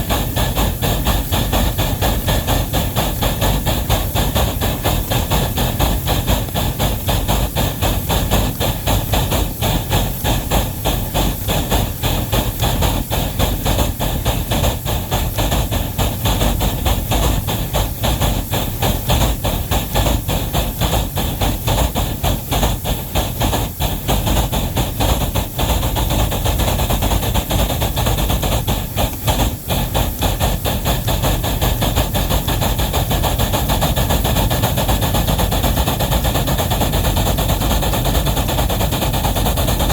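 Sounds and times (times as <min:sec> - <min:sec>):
steam hiss: 0:00.0 - 0:39.9
steam locomotive exhaust chuffs: 0:00.0 - 0:39.9.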